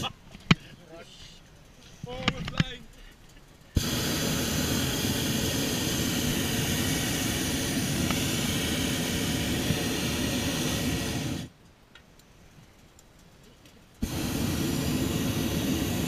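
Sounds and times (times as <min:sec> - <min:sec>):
propane burner roaring: 0:00.0 - 0:11.6, 0:13.6 - 0:16.0.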